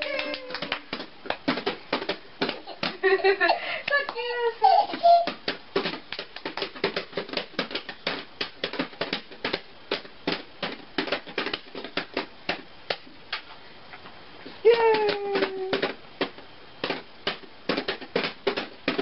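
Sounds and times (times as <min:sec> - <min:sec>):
hands slapping plastic toys: 0:00.0 - 0:13.6, 0:14.7 - 0:19.0.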